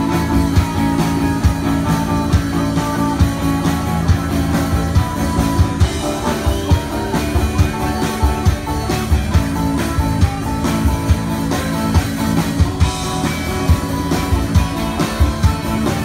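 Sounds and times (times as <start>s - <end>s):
drum kit beat: 0.0s - 16.0s
electric guitars: 0.0s - 16.0s.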